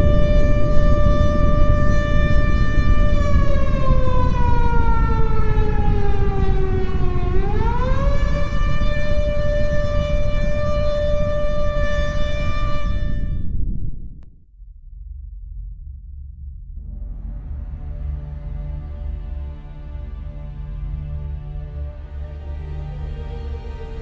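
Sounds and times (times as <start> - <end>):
air-raid siren wailing: 0.0 - 13.8, 17.2 - 24.0
constant low rumble: 0.0 - 24.0.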